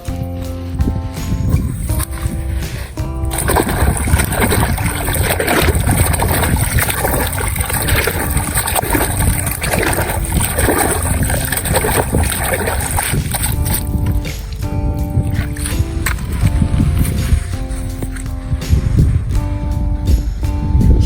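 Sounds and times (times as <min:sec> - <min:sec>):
water splashing and gurgling: 0:00.8 - 0:19.9.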